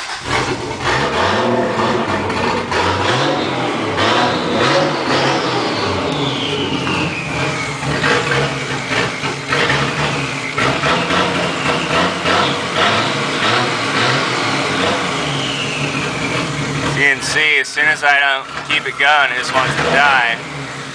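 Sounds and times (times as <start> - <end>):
engine running roughly with throttle snaps: 0.0 - 20.9
falling whine: 0.5 - 20.9.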